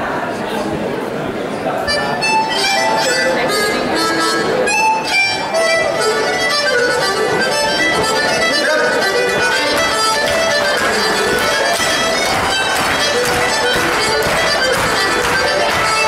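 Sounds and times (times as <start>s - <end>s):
accordion melody: 1.8s - 16.0s
fiddle playing: 1.9s - 16.0s
acoustic guitar strumming: 2.4s - 16.0s.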